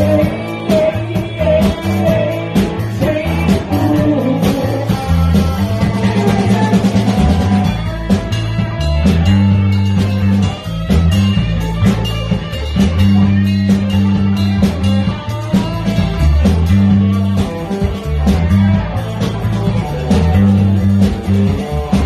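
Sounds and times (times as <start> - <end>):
deep bass notes: 0.0 - 22.0
drum beat: 0.0 - 22.0
electric guitar: 0.0 - 22.0.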